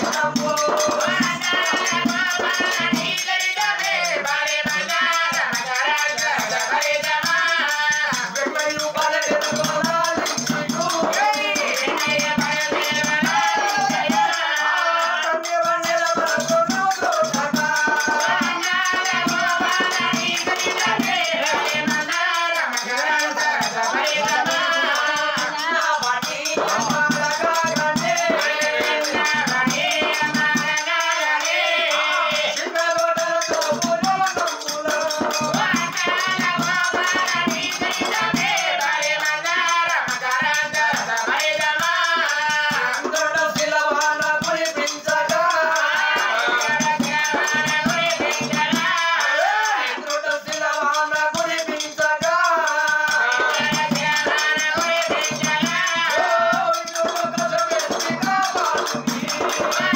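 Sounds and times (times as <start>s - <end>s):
person singing: 0.0s - 59.9s
rattling jingling percussion: 0.0s - 59.9s.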